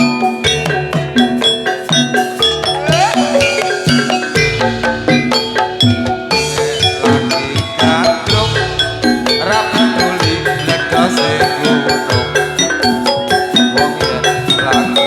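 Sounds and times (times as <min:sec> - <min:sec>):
drums: 0:00.0 - 0:15.0
metallophones and gongs struck: 0:00.0 - 0:15.0.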